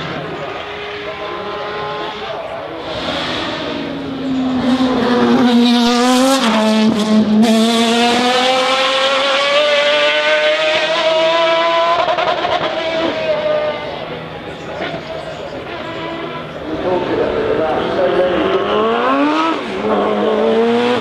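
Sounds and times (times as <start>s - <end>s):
racing car engine passing by: 0.0s - 21.0s.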